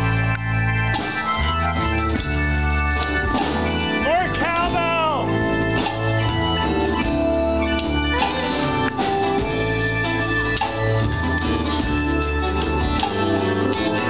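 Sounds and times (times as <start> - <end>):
bass: 0.0 - 14.0
live band playing: 0.0 - 14.0
organ sound: 0.0 - 14.0.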